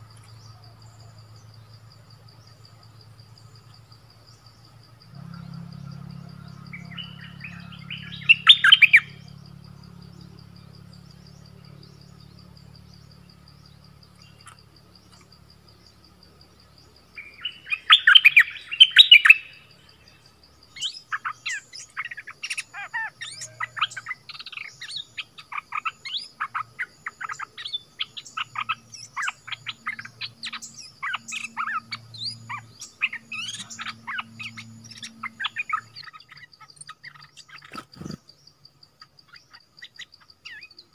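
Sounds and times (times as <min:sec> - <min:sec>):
birds chattering harshly: 0:00.0 - 0:40.9
high insect drone: 0:00.0 - 0:40.9.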